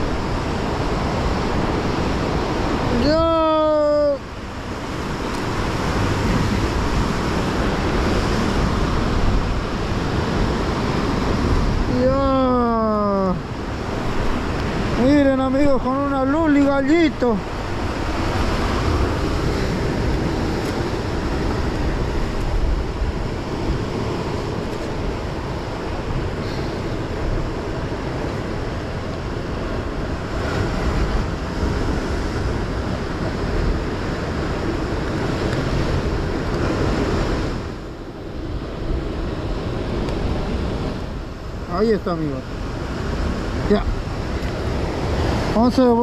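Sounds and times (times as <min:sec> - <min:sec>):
surf breaking against rocks: 0:00.0 - 0:37.8
wind on microphone: 0:00.0 - 0:46.0.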